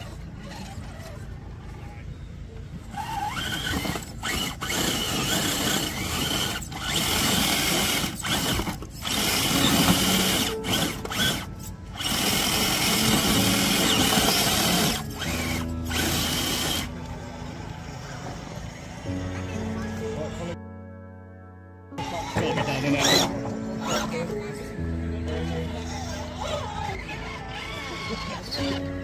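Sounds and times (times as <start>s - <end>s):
electric motor and gearbox whining: 0.0s - 20.6s, 22.0s - 29.0s.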